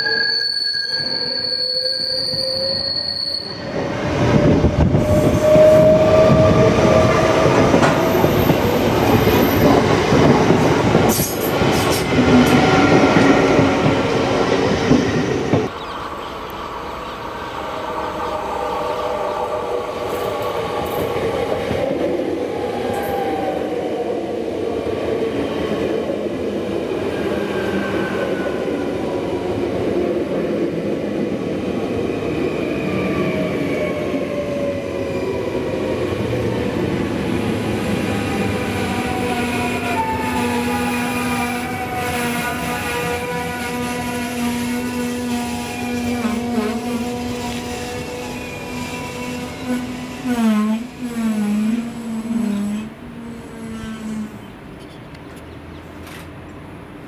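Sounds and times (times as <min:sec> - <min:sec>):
train running on rails: 0:00.0 - 0:57.0.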